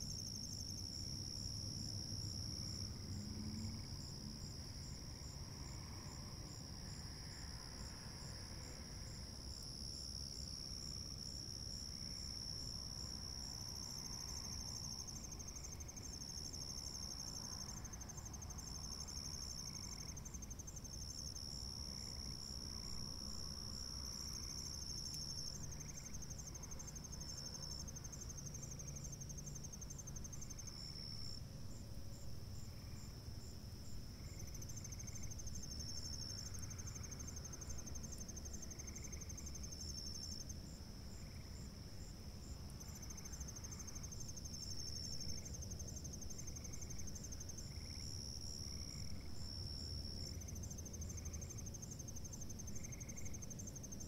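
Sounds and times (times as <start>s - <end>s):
crickets and insects trilling: 0.2s - 31.4s, 32.1s - 54.0s.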